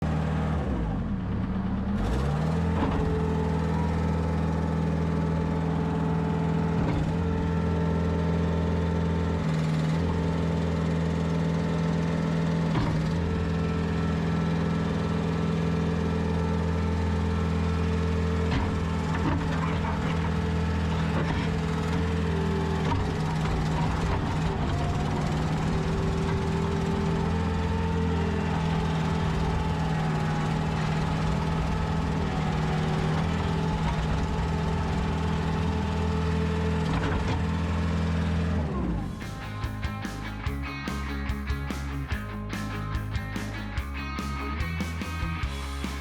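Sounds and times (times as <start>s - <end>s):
diesel loader engine running: 0.0s - 46.0s.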